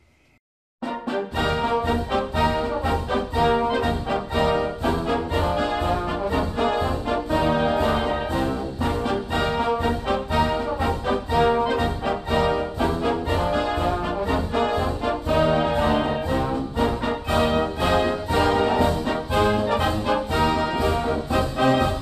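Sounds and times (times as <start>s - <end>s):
orchestral music led by brass: 0.8s - 22.0s.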